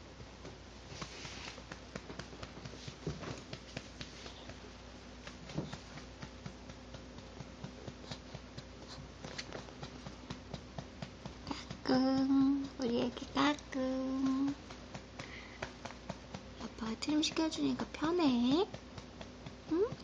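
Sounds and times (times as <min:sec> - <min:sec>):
hand patting a baby's back: 0:00.5 - 0:17.5.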